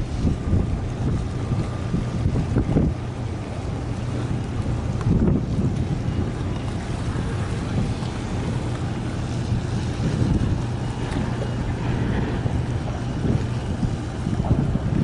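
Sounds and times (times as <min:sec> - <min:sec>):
ship engine low drone: 0:00.0 - 0:15.0
wind buffeting microphone: 0:00.0 - 0:15.0.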